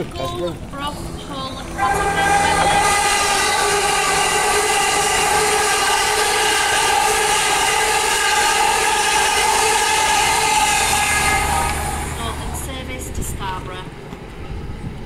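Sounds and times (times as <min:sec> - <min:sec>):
train whine: 0:00.0 - 0:14.8
rush of passing train: 0:00.7 - 0:15.0.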